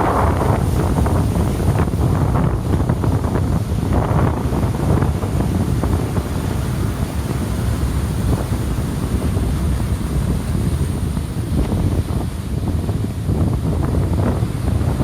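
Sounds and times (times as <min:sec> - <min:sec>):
heavy surf rumbling: 0:00.0 - 0:15.0
wind buffeting microphone: 0:00.0 - 0:15.0.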